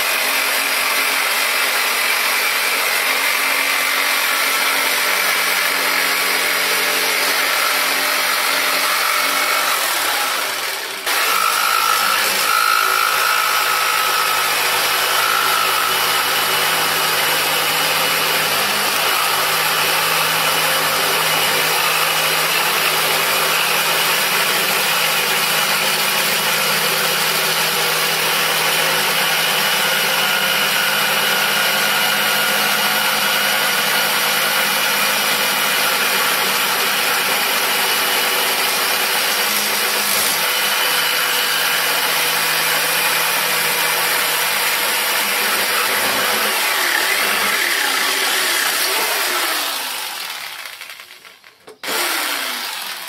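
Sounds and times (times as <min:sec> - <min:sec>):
jigsaw cutting plywood: 0:00.0 - 0:53.0.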